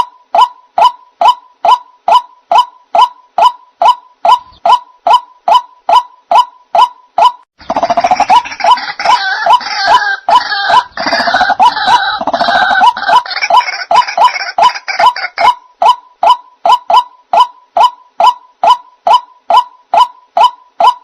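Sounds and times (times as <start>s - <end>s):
bird short repeated calls: 0.0s - 21.0s
overlapping bird calls: 0.0s - 21.0s.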